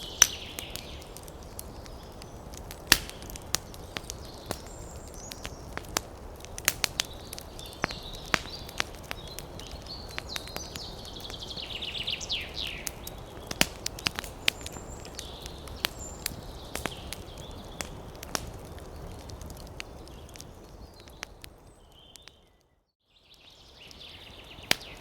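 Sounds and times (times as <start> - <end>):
rumble of flames: 0.0 - 22.4
wood fire crackling and popping: 0.0 - 22.8, 23.4 - 25.0.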